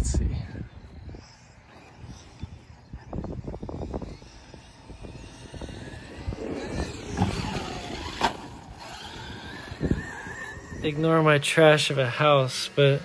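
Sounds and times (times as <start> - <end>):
electric motor whining: 0.0 - 13.0
tyres on dirt: 1.2 - 13.0.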